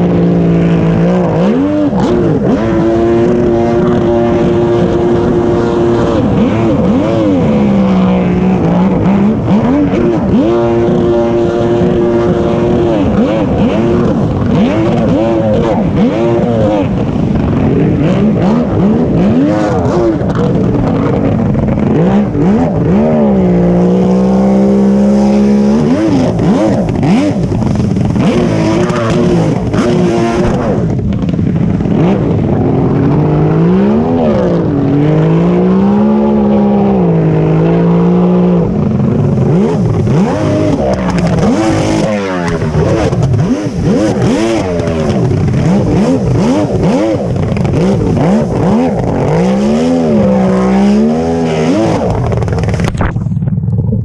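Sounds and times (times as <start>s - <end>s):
jet ski engine revving: 0.0s - 53.8s
steady rushing noise: 0.0s - 54.0s.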